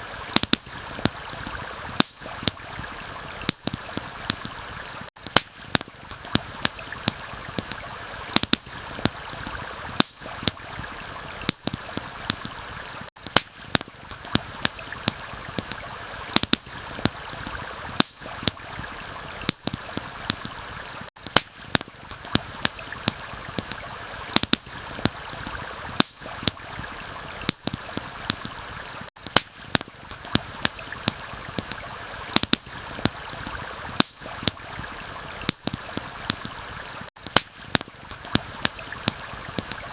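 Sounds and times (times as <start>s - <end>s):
stream rushing: 0.0s - 21.1s, 22.0s - 29.1s, 30.0s - 37.1s
campfire crackling and popping: 0.0s - 39.9s.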